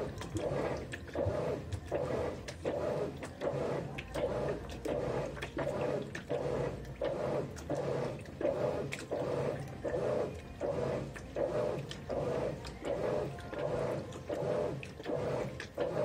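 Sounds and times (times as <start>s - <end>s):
washing machine motor hum: 0.0s - 16.0s
water sloshing in washing machine: 0.0s - 16.0s.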